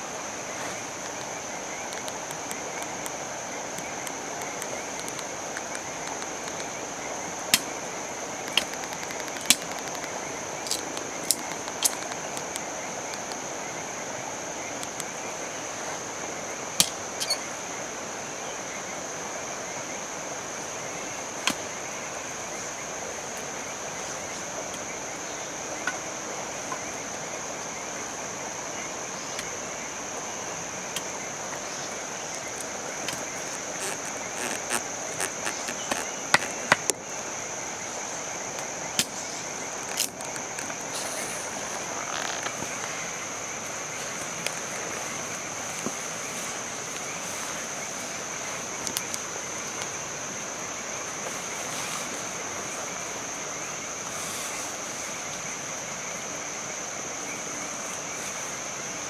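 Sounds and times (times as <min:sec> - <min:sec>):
frogs croaking: 0:00.0 - 0:59.0
insects calling: 0:00.0 - 0:59.0.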